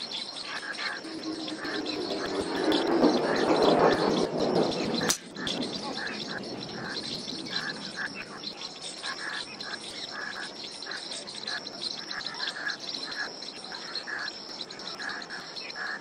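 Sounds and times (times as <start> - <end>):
high insect drone: 0.0 - 16.0
sharp chirping calls: 0.0 - 16.0.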